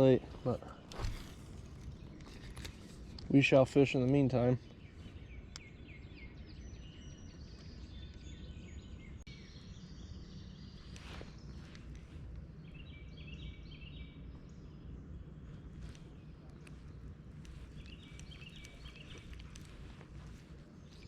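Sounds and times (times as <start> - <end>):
birds singing: 0.0 - 21.0
low background rumble: 0.0 - 21.0.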